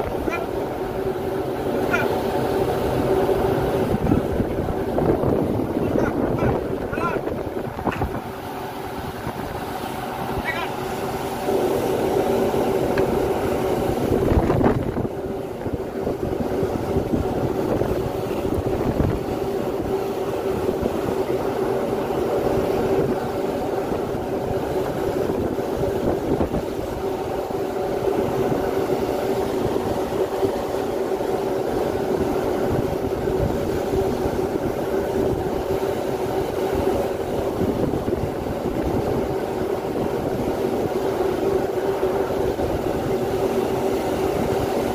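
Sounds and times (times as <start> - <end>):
ship engine drone: 0.0 - 44.9.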